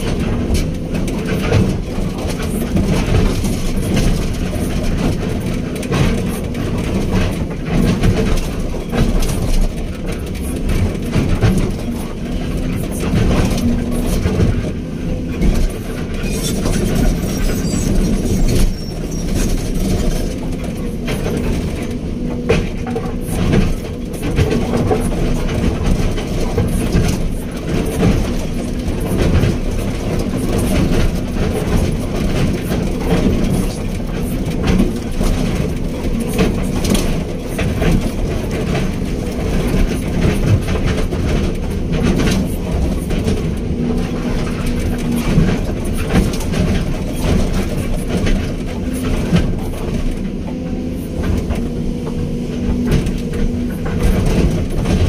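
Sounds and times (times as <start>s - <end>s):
excavator diesel engine running: 0.0s - 55.0s
machine clanks and knocks: 0.0s - 55.0s.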